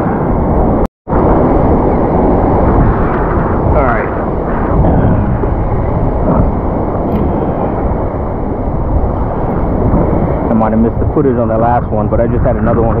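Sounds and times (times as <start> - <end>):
surf churning around wader: 0.0 - 13.0.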